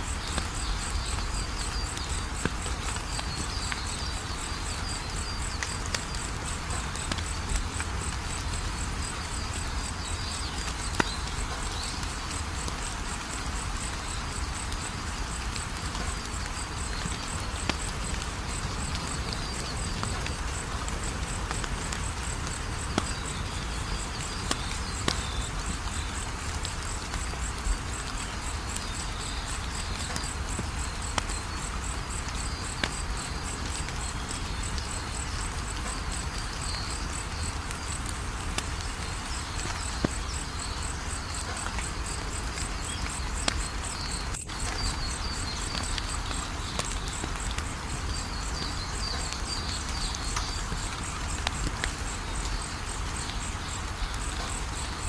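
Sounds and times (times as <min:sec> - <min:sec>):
crickets chirping: 0:00.0 - 0:55.0
wood fire crackling: 0:00.0 - 0:55.0.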